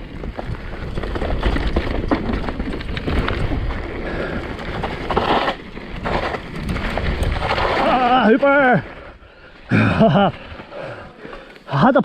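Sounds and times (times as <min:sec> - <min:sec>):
bike clicking and rattling: 0:00.0 - 0:11.9
bike tyres rolling over dirt: 0:00.0 - 0:12.0.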